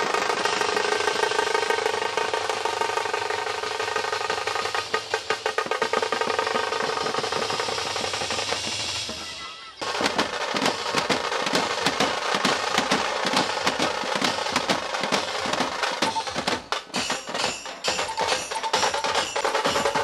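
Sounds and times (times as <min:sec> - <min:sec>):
steel drums beaten with sticks: 0:00.0 - 0:20.0.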